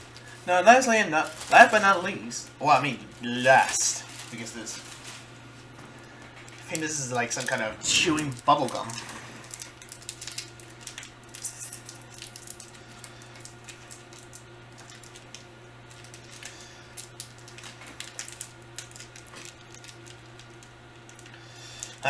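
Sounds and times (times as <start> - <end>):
plastic wrapper crinkling: 0.0 - 22.0
steady low hum: 0.0 - 22.0.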